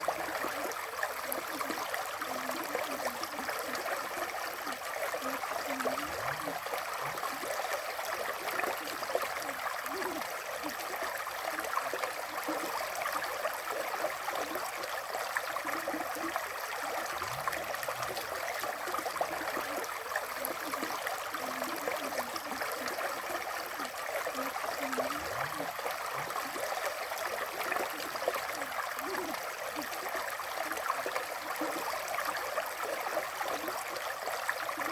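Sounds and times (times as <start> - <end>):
river water flowing: 0.0 - 34.9
water gurgles: 0.0 - 34.9.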